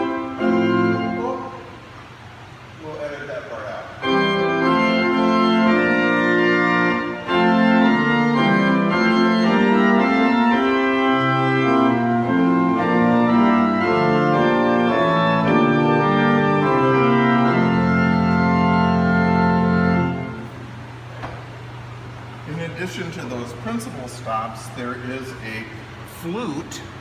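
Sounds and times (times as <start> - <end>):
pipe organ playing: 0.0 - 2.9, 3.6 - 27.0.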